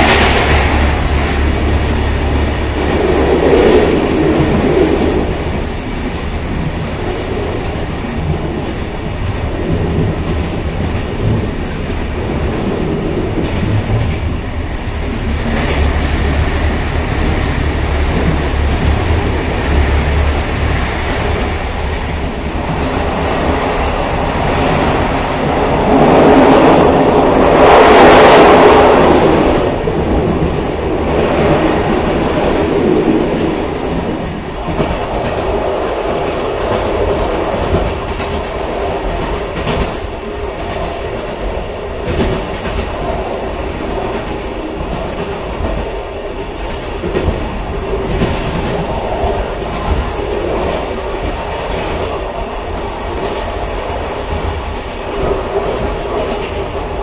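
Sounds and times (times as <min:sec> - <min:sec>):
railcar rumbling and rattling: 0:00.0 - 0:57.0.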